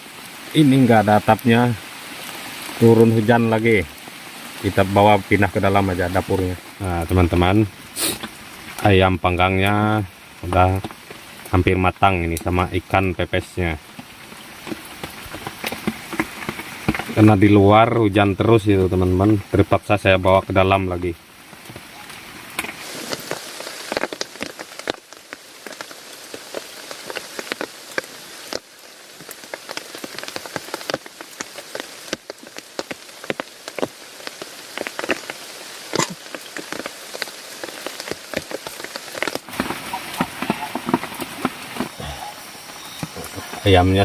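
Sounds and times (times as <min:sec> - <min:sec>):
raindrops tapping close by: 0:00.0 - 0:44.0
steady rain falling: 0:00.0 - 0:44.0.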